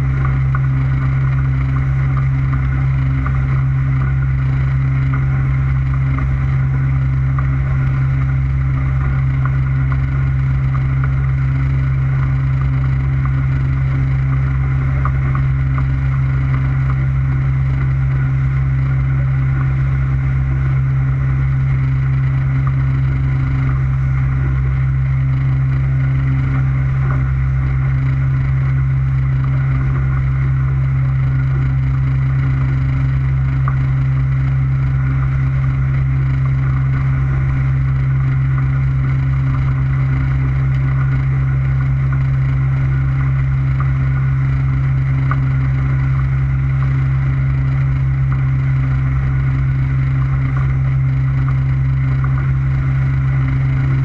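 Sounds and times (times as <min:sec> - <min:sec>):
motorboat engine droning: 0:00.0 - 0:54.0.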